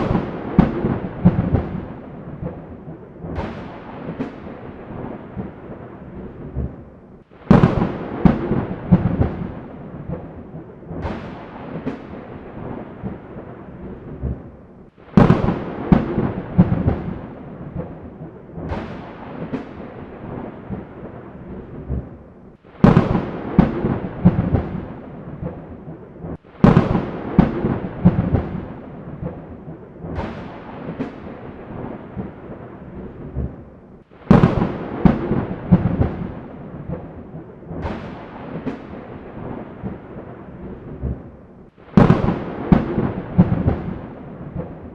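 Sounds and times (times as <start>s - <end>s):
rain hiss: 0.0s - 13.8s, 14.7s - 21.6s, 22.5s - 40.5s
thunder cracking and rumbling: 0.0s - 44.9s.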